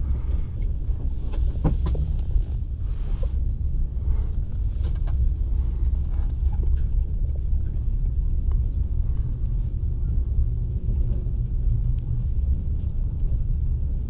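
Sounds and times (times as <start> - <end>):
train carriage rumbling: 0.0 - 14.0.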